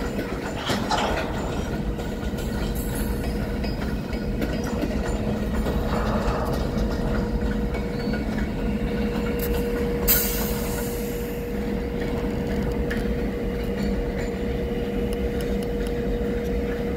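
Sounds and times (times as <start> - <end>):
freight train rolling rumble: 0.0 - 16.9.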